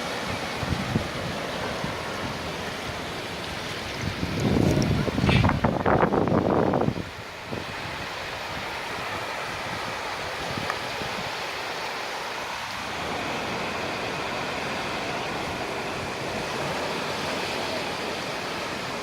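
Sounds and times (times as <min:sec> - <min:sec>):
waves washing on beach: 0:00.0 - 0:19.0.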